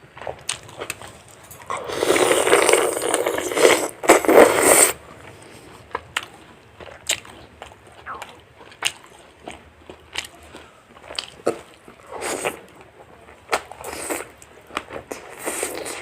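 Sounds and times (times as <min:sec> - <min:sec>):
chewing crunches and clicks: 0:00.1 - 0:04.3, 0:05.1 - 0:16.0.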